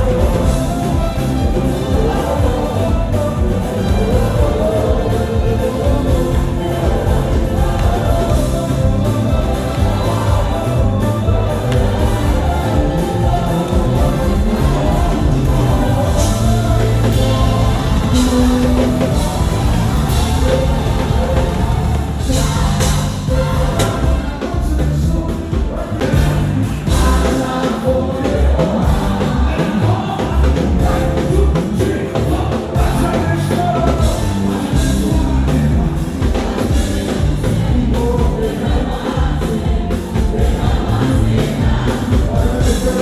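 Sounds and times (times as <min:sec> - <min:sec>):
bass: 0:00.0 - 0:43.0
drum kit with cymbal crashes: 0:00.0 - 0:43.0
person singing: 0:00.0 - 0:43.0.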